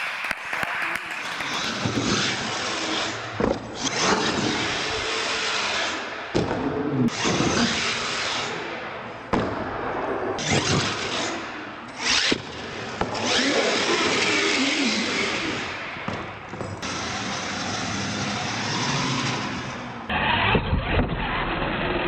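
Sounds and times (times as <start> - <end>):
electric motors and gears whining: 1.8 - 22.0.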